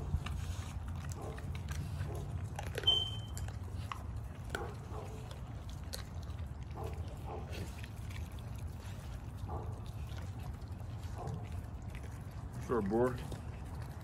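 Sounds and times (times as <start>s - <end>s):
dog chewing and crunching bones: 0.0s - 14.0s.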